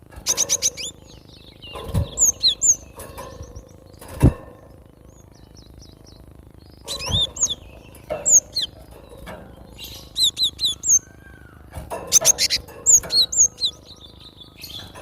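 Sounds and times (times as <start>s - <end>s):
bird chirping: 0.2s - 15.0s.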